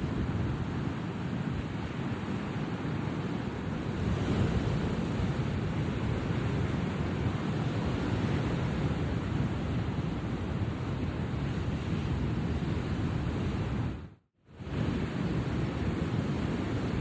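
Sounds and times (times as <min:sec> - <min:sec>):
wind: 0:00.0 - 0:17.0
wind buffeting microphone: 0:00.0 - 0:17.0.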